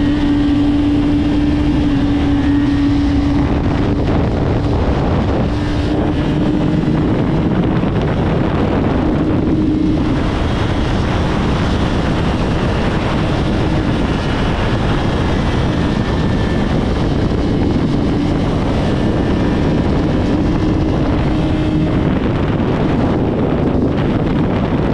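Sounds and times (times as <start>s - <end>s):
motorcycle engine running: 0.0s - 24.9s
wind noise on microphone: 0.0s - 24.9s.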